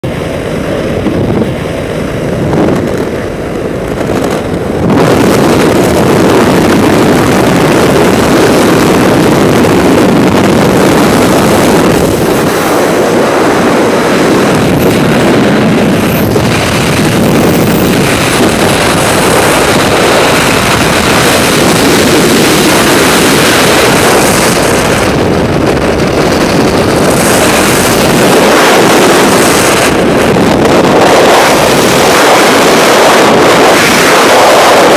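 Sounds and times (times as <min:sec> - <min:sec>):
aircraft engine: 0:00.0 - 0:34.9
wind rushing over microphone: 0:00.0 - 0:34.9.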